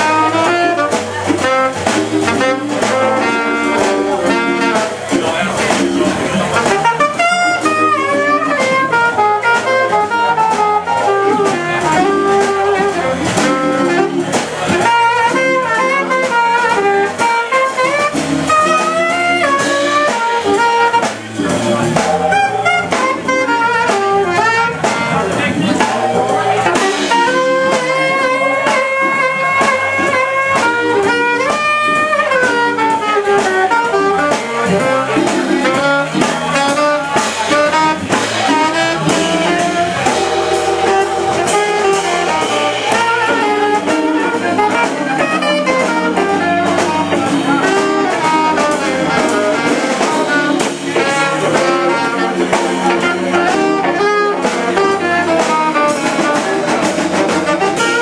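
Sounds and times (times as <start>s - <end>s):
jazz band playing: 0.0s - 58.0s
saxophone lead: 0.0s - 58.0s.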